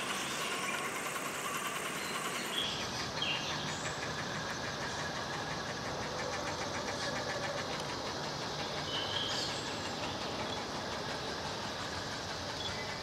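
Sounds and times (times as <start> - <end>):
electric motor and drivetrain running: 0.0 - 13.0.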